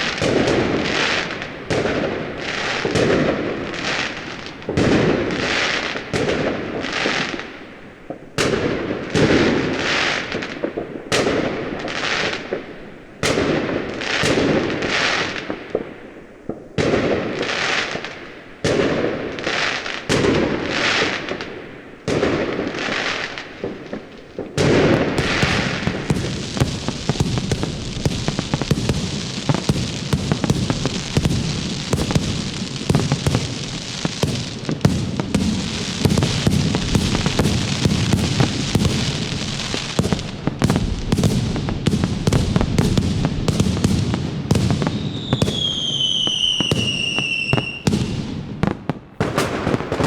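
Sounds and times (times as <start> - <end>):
fireworks bangs: 0.0 - 50.0.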